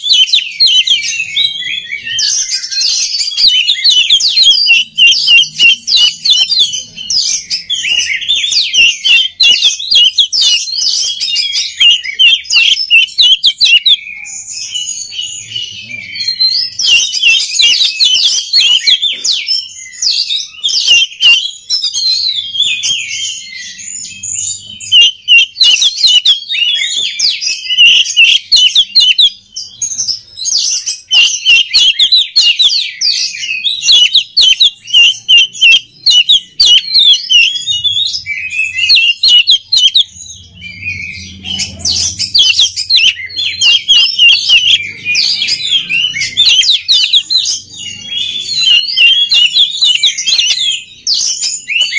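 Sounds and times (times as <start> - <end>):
bird singing whistled notes: 0.0 - 51.9.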